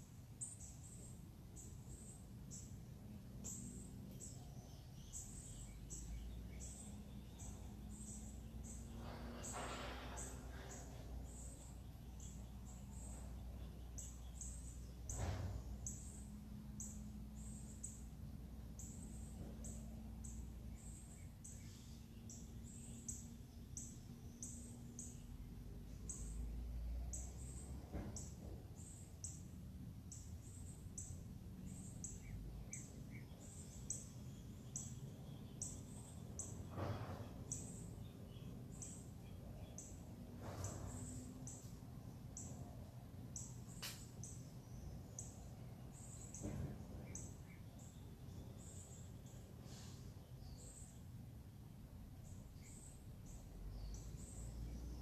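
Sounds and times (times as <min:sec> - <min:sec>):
bird chirping: 0:00.0 - 0:51.2, 0:52.1 - 0:55.0.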